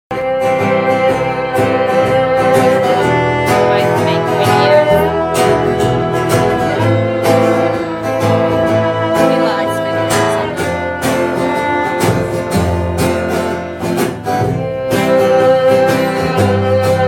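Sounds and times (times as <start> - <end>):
live band playing: 0.1 - 17.0
strummed and plucked guitar: 0.1 - 17.0.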